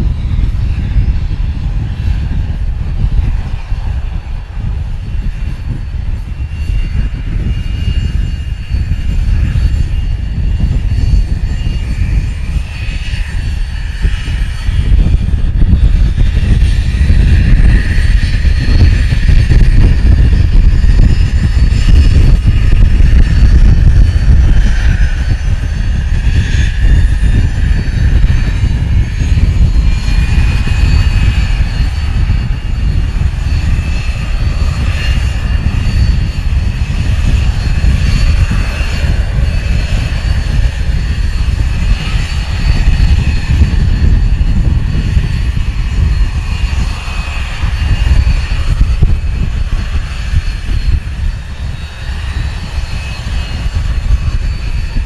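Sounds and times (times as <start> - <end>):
jet engines whining and rumbling: 0.0 - 55.0.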